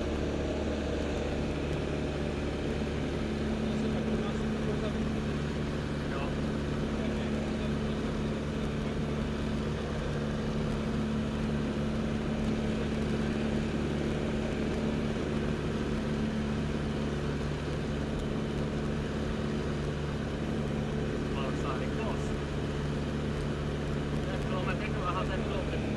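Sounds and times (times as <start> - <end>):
glider engine drone: 0.0 - 25.9.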